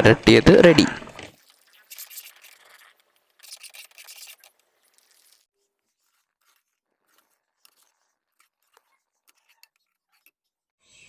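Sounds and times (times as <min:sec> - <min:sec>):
utensil scraping cookware: 0:00.3 - 0:10.6.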